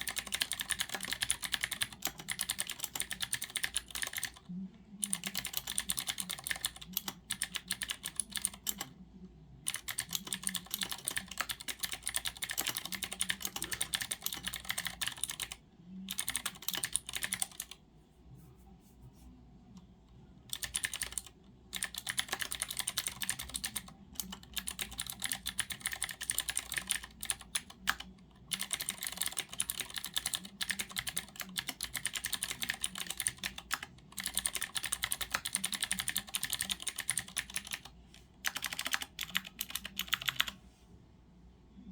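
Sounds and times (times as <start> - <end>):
mechanical keyboard typing: 0.0 - 4.4, 5.0 - 8.9, 9.7 - 17.8, 20.5 - 40.6.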